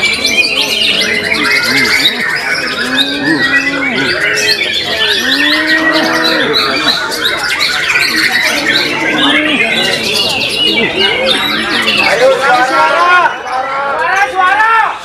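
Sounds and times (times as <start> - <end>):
songbirds singing: 0.0 - 14.4.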